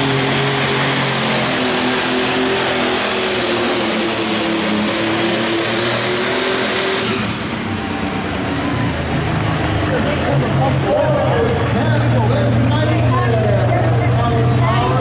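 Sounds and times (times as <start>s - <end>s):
tractor engine at full throttle: 0.0s - 15.0s.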